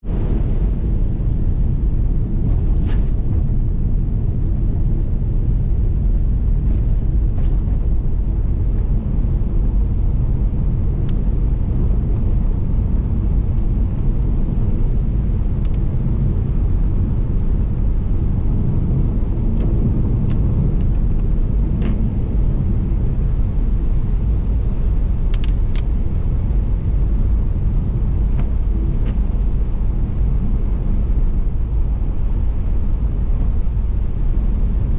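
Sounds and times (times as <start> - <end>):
road and tyre noise: 0.0 - 34.9.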